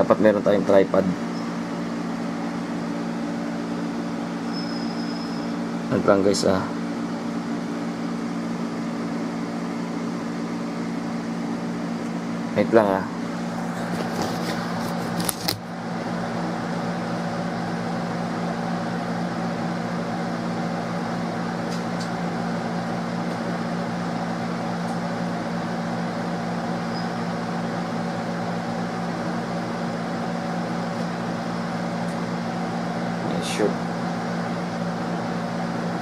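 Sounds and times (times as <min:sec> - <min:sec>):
mechanical hum with low drone: 0:00.0 - 0:36.0.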